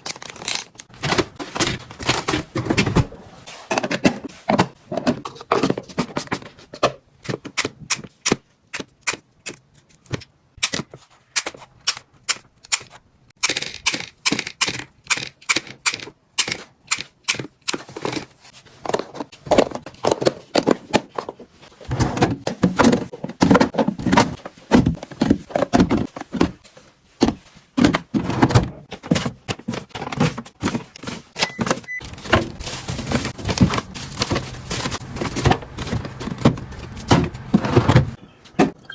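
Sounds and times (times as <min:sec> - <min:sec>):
plastic boxes clicking and knocking: 0:00.0 - 0:38.9.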